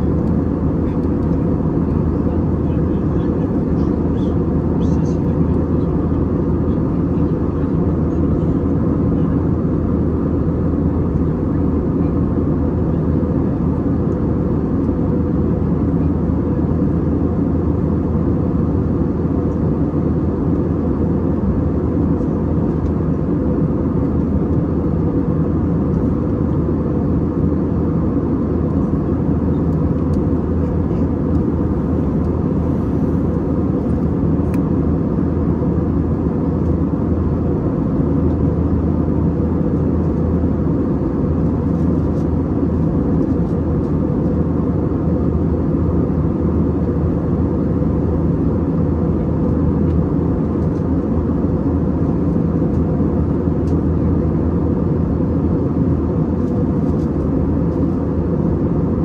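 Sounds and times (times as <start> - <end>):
airplane cabin engine rush: 0.0 - 59.0
faint constant hum: 0.0 - 59.0.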